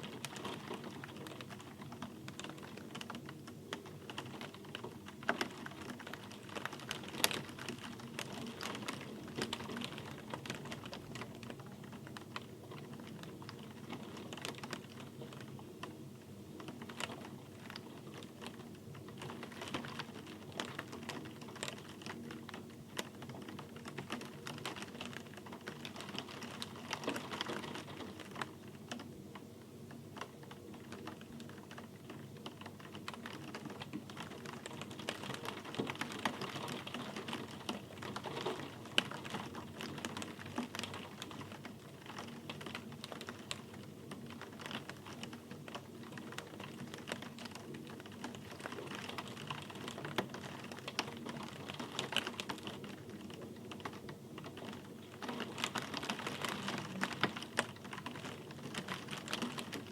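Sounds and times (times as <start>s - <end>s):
rain on a hard surface: 0.0s - 59.9s.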